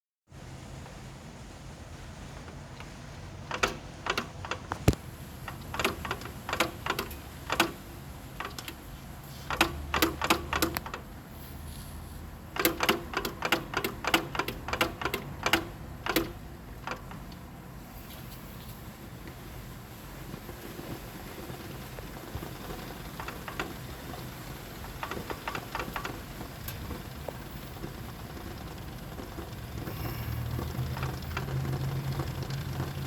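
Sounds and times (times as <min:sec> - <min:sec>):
transmission clunking knocks: 0:02.3 - 0:11.2, 0:12.5 - 0:17.8, 0:20.3 - 0:33.0.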